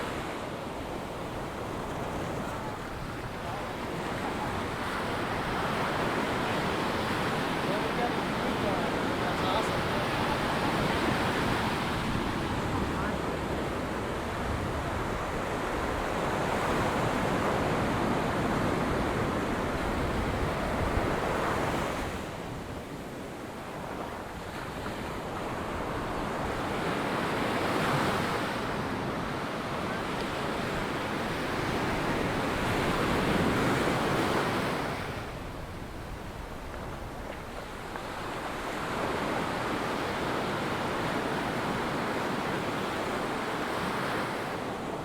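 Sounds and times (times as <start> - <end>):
ocean surf breaking on beach: 0.0 - 45.0.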